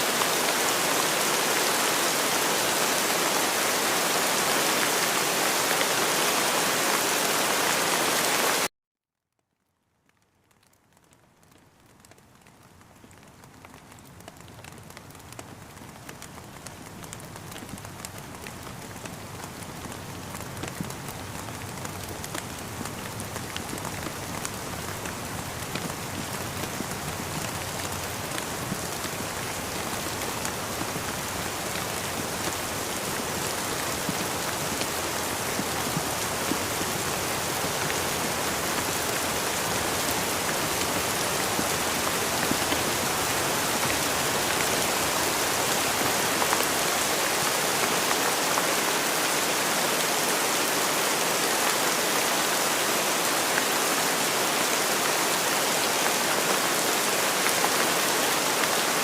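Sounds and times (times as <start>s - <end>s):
rain falling steadily: 0.0s - 8.7s, 9.3s - 59.0s.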